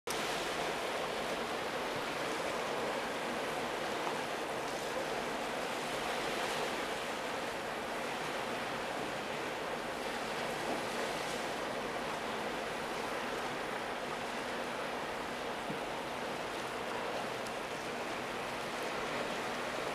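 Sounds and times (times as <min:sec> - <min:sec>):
waves on choppy water: 0:00.1 - 0:19.9
wind: 0:00.1 - 0:19.9.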